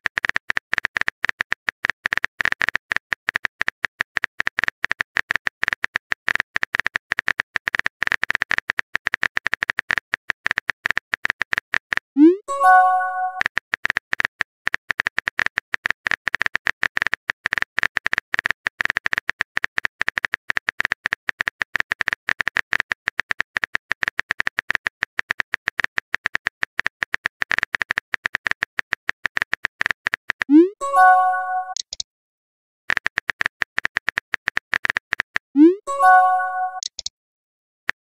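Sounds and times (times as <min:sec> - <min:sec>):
phone keyboard typing clicks: 0:00.1 - 0:32.0, 0:36.0 - 0:37.1.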